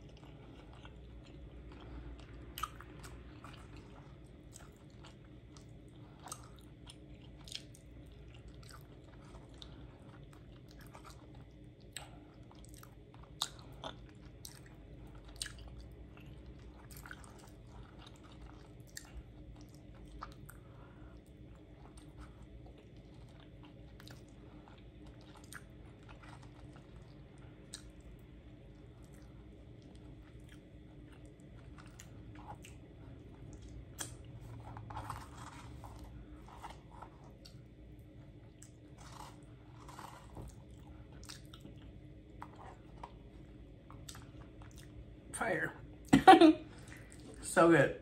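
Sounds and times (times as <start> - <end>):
close chewing mouth sounds: 0.0 - 45.1.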